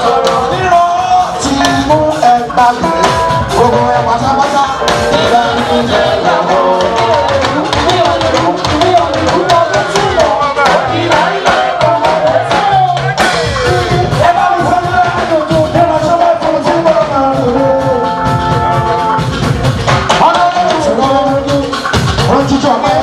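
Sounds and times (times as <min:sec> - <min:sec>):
upbeat band music with singing: 0:00.0 - 0:23.0.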